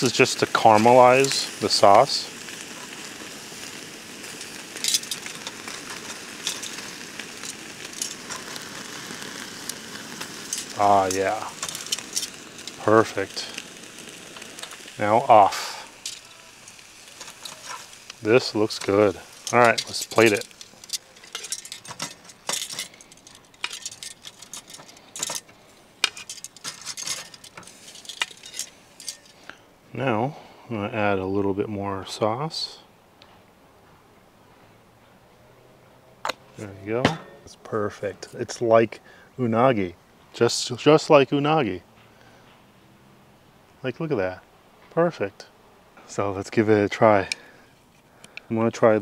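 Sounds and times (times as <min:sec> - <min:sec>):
fish sizzling on a grill: 0:00.0 - 0:31.5, 0:36.2 - 0:43.2, 0:46.0 - 0:49.0.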